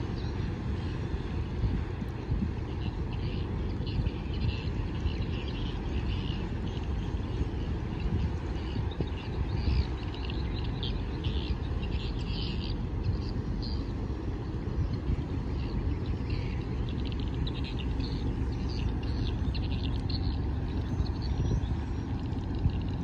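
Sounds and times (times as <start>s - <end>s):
birds chirping: 0.0s - 23.0s
ship engine low rumble: 0.0s - 23.0s.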